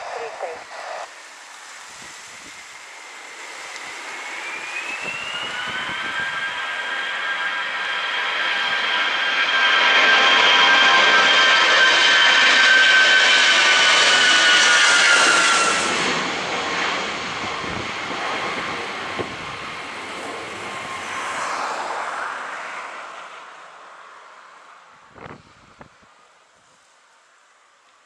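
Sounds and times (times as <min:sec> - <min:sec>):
jet engines passing overhead: 0:00.0 - 0:27.8.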